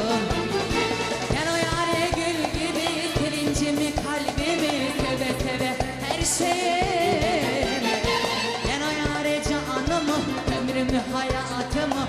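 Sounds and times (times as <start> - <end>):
percussion beat: 0.0 - 12.0
person singing: 0.0 - 12.0.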